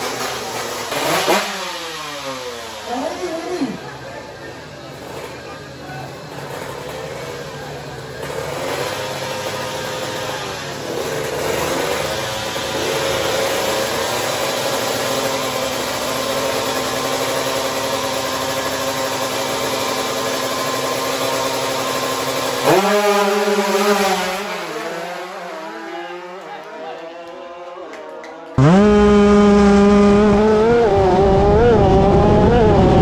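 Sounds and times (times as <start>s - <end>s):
motorcycle engines revving: 0.0s - 33.0s.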